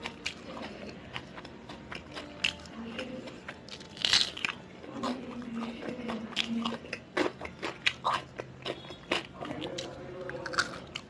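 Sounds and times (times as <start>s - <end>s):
person chewing crunchy food: 0.0s - 11.0s.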